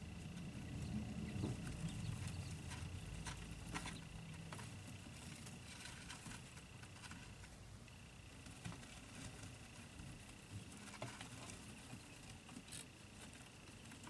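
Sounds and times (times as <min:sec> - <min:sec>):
chicks tapping and scratching: 0:00.0 - 0:14.0.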